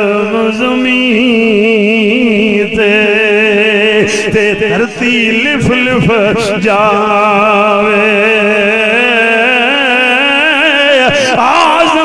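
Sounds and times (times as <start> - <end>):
man singing long vibrato note: 0.0 - 12.0.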